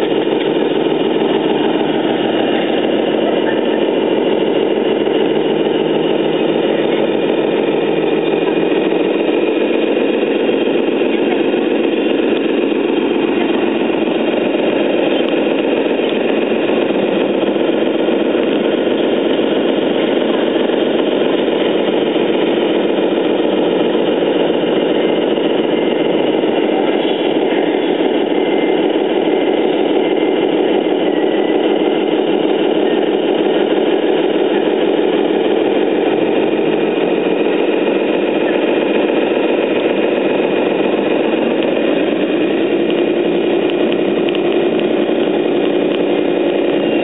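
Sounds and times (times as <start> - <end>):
toy truck motor drone: 0.0 - 47.0.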